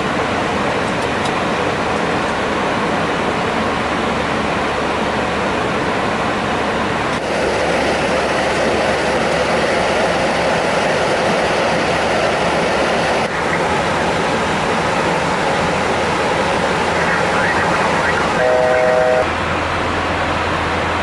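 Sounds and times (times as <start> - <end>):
cockpit airflow and engine noise: 0.0 - 21.0.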